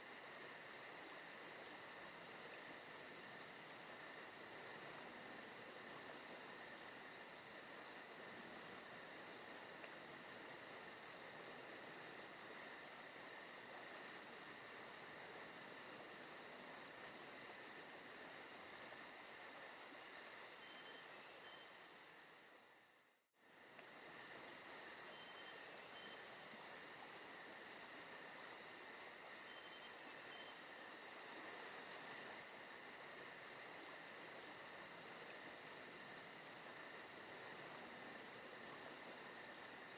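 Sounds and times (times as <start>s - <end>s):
constant insect hum: 0.0s - 39.9s
crickets chirping: 0.0s - 39.9s.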